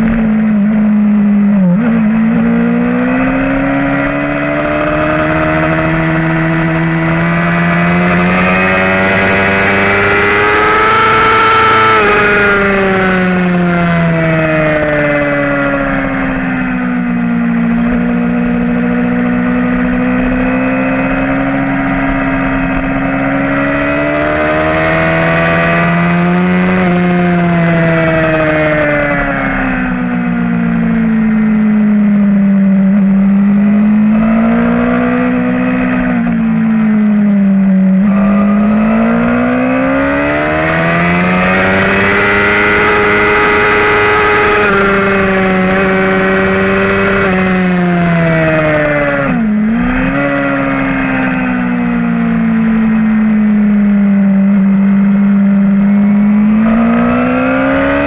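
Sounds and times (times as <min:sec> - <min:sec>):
motorcycle engine at race pace: 0:00.0 - 0:58.0.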